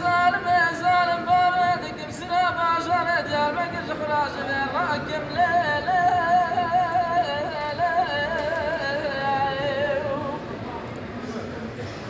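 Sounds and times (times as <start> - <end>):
man singing unaccompanied: 0.0 - 10.4.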